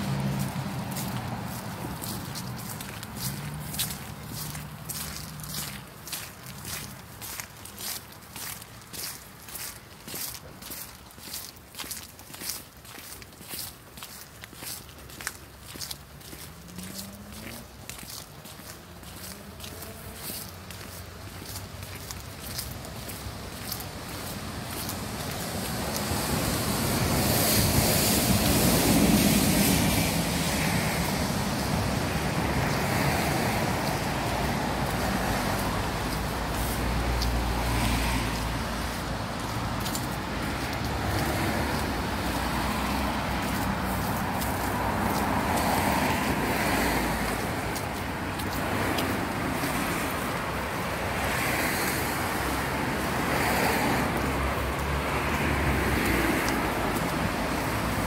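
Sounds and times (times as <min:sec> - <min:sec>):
cars passing: 0:00.0 - 0:58.0
street traffic: 0:00.0 - 0:58.0.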